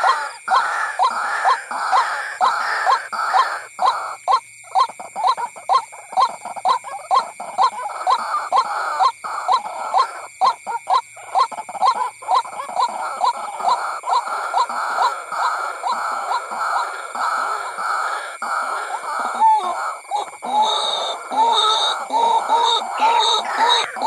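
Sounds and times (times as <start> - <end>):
waterhen croaking calls: 0.0 - 24.0.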